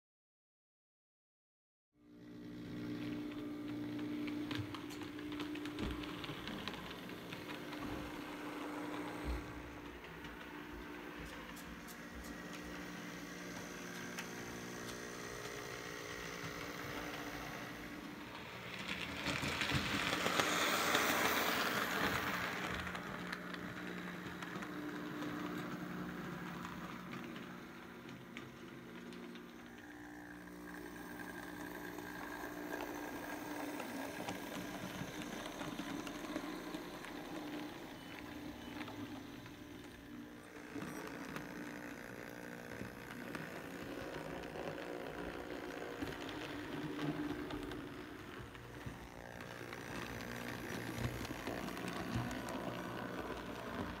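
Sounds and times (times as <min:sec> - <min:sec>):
small electric motor humming: 0:02.0 - 0:54.0.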